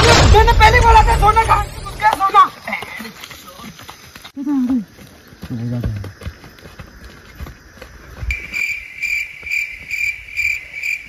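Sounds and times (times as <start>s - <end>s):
insect chirping in pulses: 0.0s - 11.0s.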